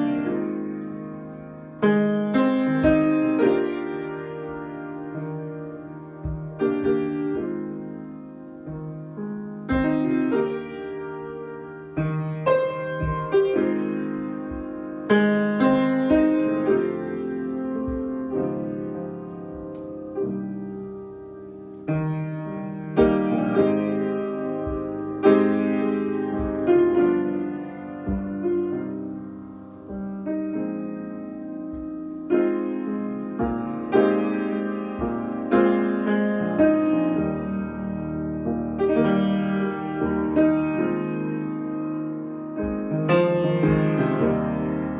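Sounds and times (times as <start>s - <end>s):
solo piano chords: 0.0s - 44.9s.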